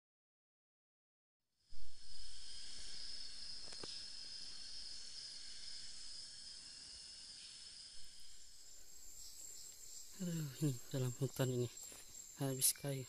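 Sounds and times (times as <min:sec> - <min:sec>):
high-pitched insect chorus: 0:01.6 - 0:13.0.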